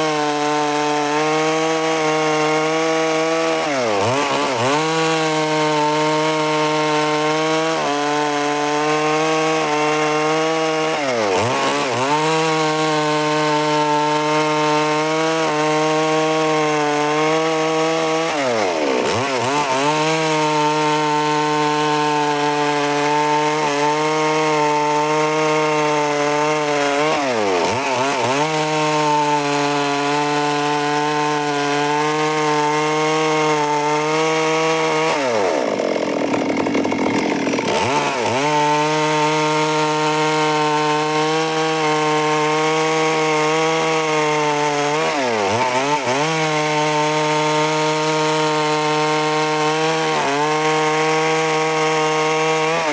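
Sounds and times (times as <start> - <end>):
chainsaw sawing wood: 0.0 - 52.9.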